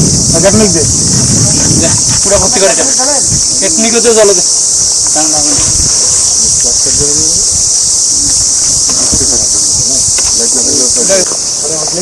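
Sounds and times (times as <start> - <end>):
insects chorus shrilling: 0.0 - 12.0
faint voices: 0.2 - 12.0.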